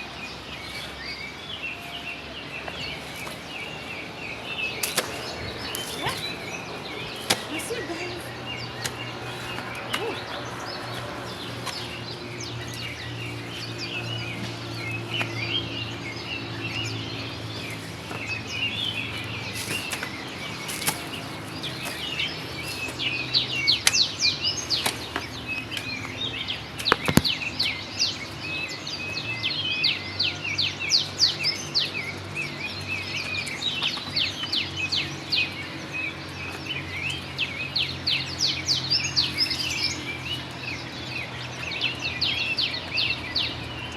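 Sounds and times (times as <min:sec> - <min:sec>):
birds chirping and twittering: 0:00.0 - 0:43.9.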